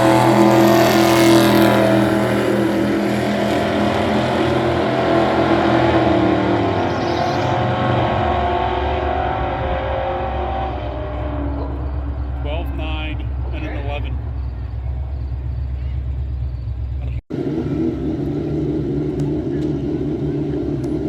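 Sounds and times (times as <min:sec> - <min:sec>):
drag-race car engines: 0:00.0 - 0:21.0.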